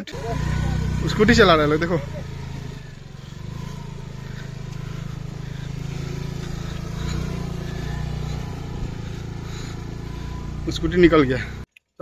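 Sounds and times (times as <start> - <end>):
scooter engine running under load: 0.0 - 11.6.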